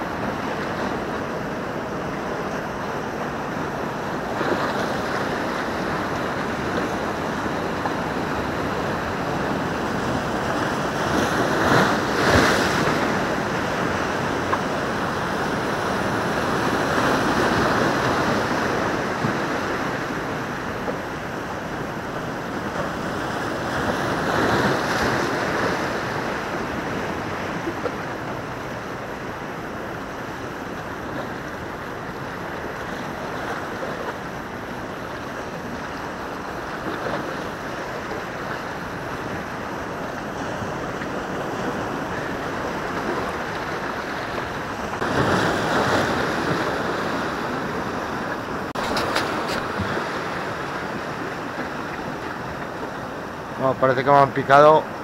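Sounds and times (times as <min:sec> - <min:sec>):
sea surf breaking on rocks: 0:00.0 - 0:55.0.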